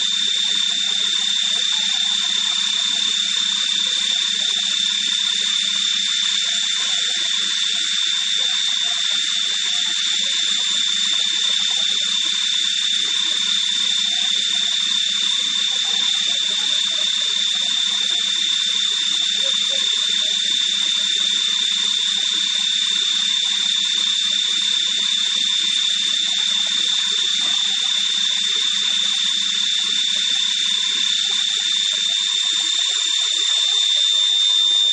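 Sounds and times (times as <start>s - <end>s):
machining centre hiss and whine: 0.0s - 34.9s.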